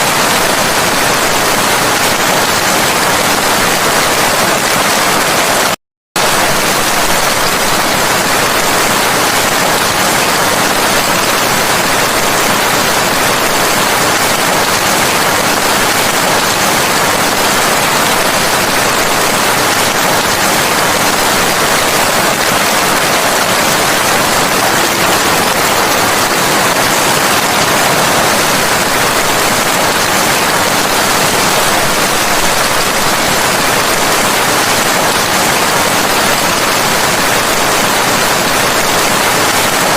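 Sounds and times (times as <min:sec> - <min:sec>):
heavy rain hiss: 0:06.2 - 0:39.9.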